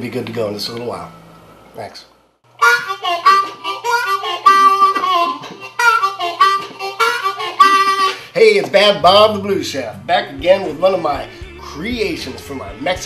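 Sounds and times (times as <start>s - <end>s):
blues harmonica riff: 2.5s - 13.0s.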